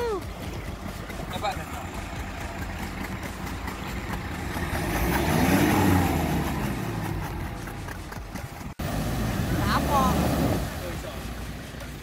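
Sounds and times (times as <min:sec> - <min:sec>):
suv engine revving: 0:00.0 - 0:12.0.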